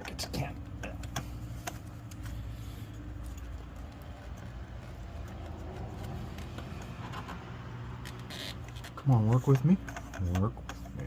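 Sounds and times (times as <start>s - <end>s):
engine running low hum: 0.1s - 11.0s.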